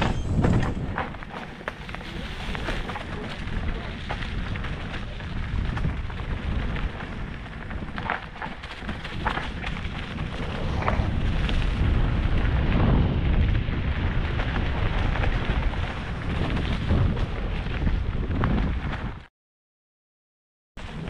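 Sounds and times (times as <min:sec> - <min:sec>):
bike rattles and clicks: 0:00.0 - 0:19.3
wind and trail rumble: 0:00.0 - 0:19.3, 0:20.8 - 0:21.0.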